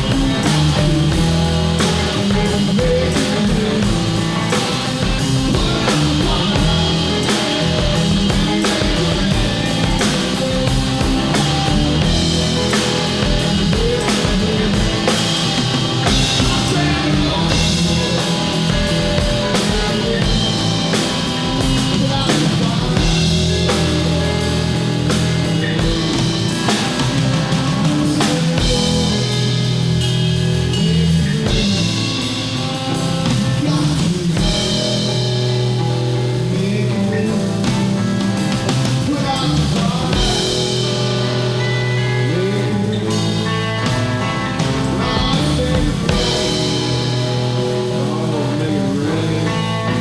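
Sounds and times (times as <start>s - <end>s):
drum kit steady beat: 0.0s - 50.0s
live band playing blues-rock: 0.0s - 50.0s.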